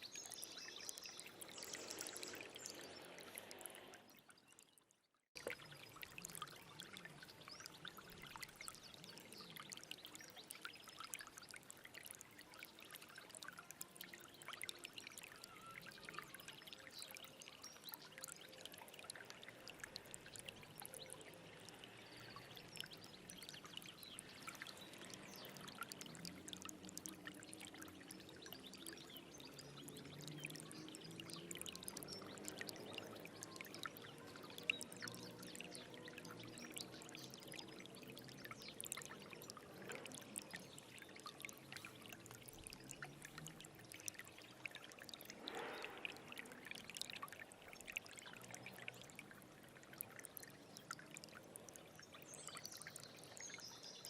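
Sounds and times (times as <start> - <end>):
stream babbling over stones: 0.0 - 4.7, 5.4 - 54.0.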